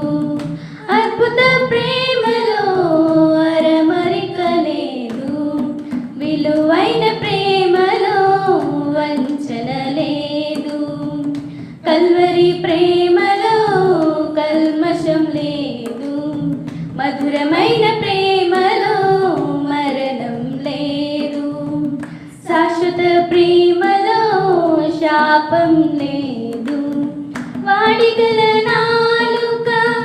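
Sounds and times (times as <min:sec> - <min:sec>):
women singing devotional song: 0:00.0 - 0:30.0.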